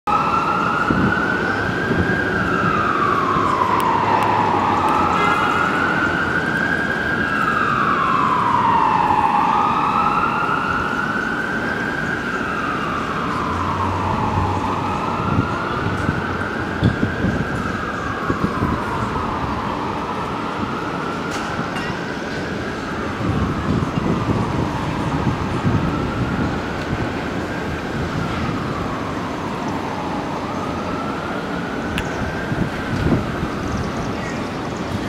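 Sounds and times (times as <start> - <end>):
low rumble of city traffic: 0.1 - 35.0
siren wailing: 0.1 - 35.0.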